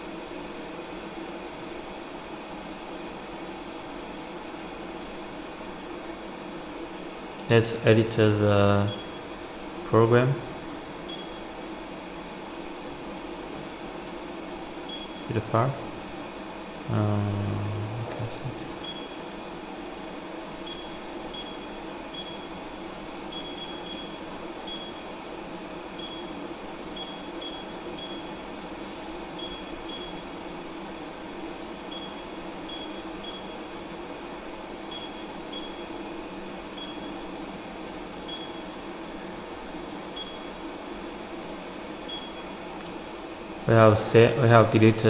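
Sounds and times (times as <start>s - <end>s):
furnace fans humming: 0.0s - 45.0s.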